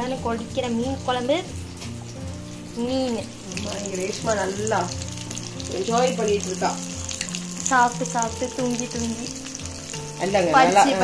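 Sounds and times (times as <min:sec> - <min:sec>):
background music: 0:00.0 - 0:11.0
curry bubbling and sizzling: 0:00.0 - 0:11.0.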